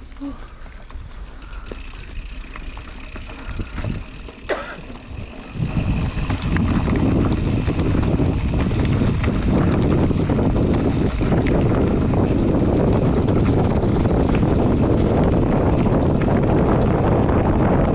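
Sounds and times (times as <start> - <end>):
bike drivetrain rattle: 0.0 - 17.9
bike tyre rumble on dirt: 0.0 - 17.9
wind buffeting microphone: 0.9 - 17.9.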